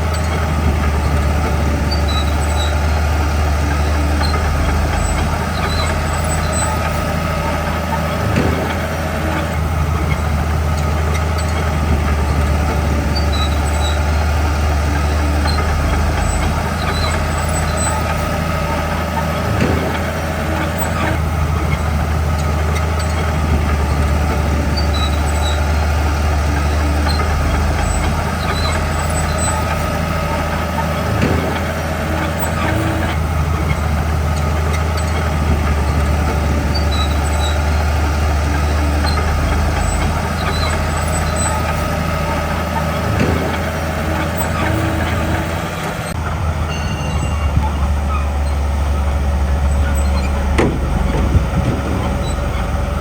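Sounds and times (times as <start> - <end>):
bulldozer diesel engine drone: 0.0 - 53.0
short metal clanks: 0.0 - 53.0.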